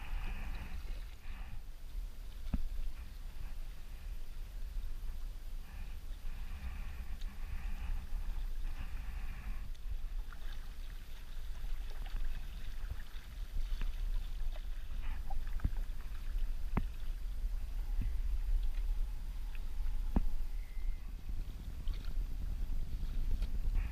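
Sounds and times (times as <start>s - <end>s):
low rumble of wind and water: 0.0s - 23.9s
paddle splashing water: 0.0s - 23.9s.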